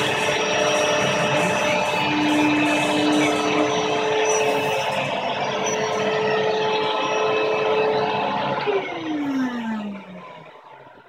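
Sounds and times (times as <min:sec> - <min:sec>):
loud machine whir: 0:00.0 - 0:11.0
router spindle whine: 0:00.0 - 0:11.0.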